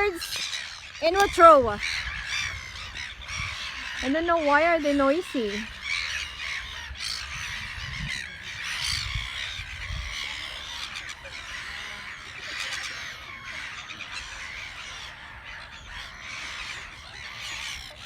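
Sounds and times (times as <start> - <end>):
gulls calling: 0.0 - 18.0.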